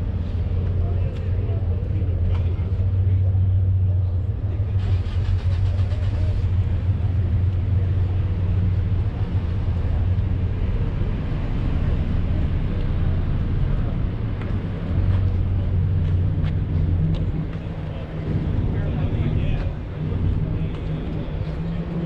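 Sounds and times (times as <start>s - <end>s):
faint voices: 0.0s - 22.0s
low engine hum: 0.0s - 22.0s.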